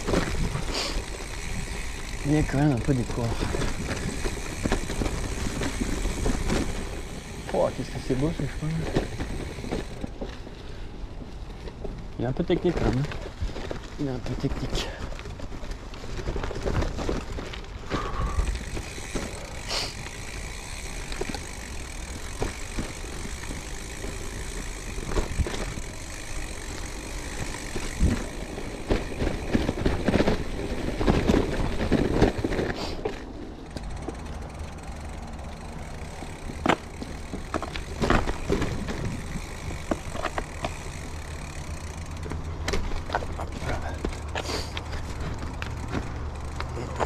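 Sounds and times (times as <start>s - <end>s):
bike knocks and rattles: 0.0s - 47.0s
bike tyres rumbling on dirt: 0.0s - 47.0s.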